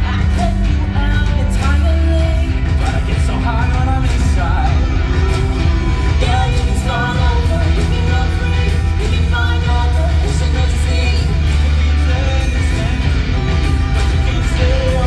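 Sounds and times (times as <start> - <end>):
loud rock music with singer: 0.0 - 15.0.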